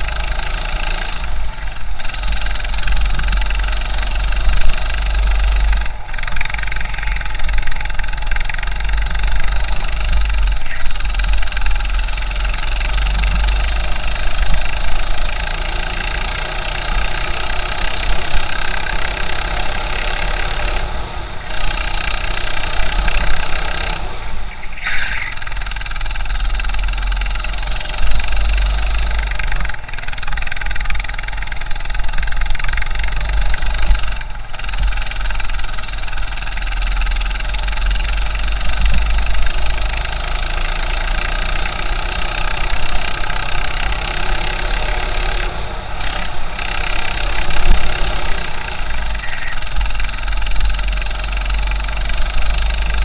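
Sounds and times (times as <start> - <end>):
go-kart engine running: 0.0 - 53.0.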